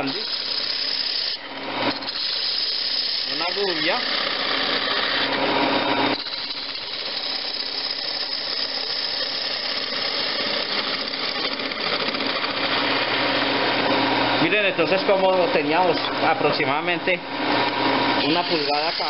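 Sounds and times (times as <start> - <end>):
gouge cutting wood on lathe: 0.0 - 16.5, 17.4 - 19.0
lathe motor hum: 0.0 - 19.0.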